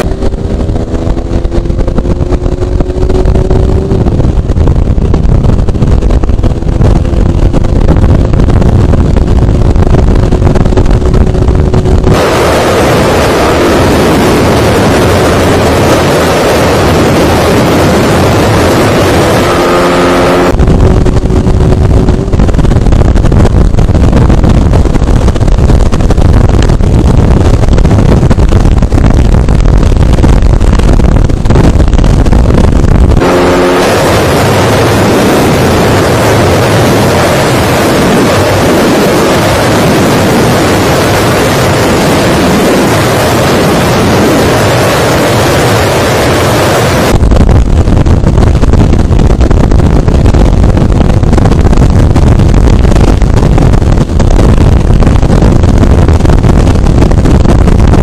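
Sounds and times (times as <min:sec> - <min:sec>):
deep wind buffeting rumble: 0:00.0 - 0:58.0
wind roaring over microphone: 0:00.0 - 0:58.0.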